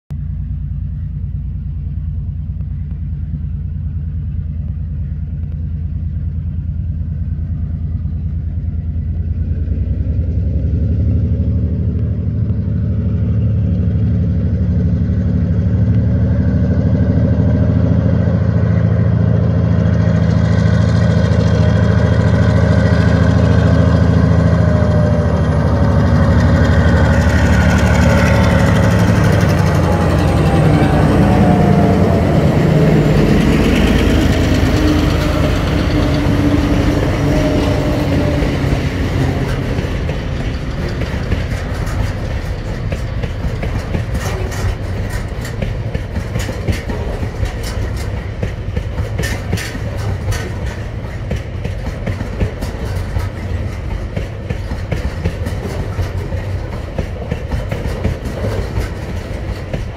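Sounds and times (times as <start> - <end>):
diesel locomotive engines droning: 0.1 - 59.9
train wheels on rails: 0.2 - 59.9.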